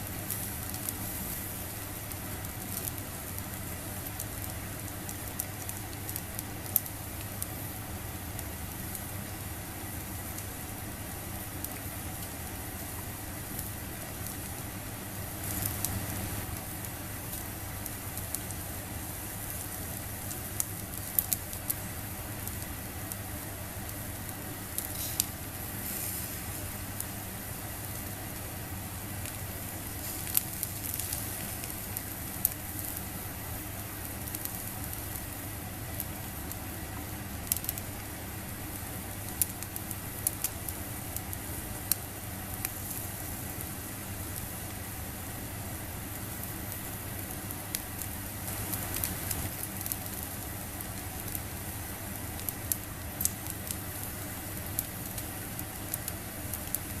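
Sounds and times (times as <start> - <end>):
squid sizzling on a grill: 0.0 - 57.0
fire pops and crackles: 0.1 - 57.0.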